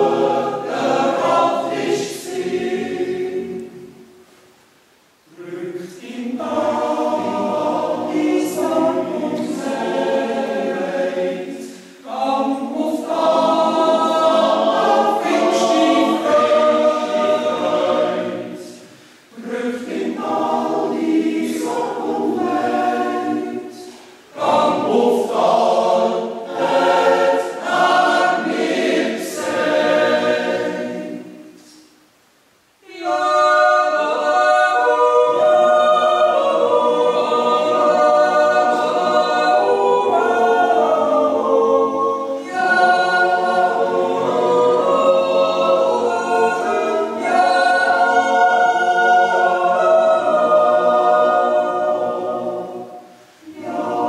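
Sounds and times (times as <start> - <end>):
choir yodeling a cappella: 0.0 - 4.2, 5.2 - 32.0, 32.8 - 54.0.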